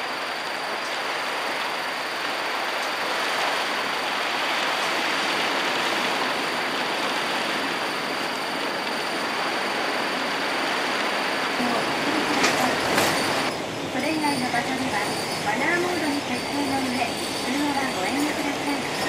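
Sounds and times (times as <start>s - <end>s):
heavy rain on a bus: 0.0s - 19.0s.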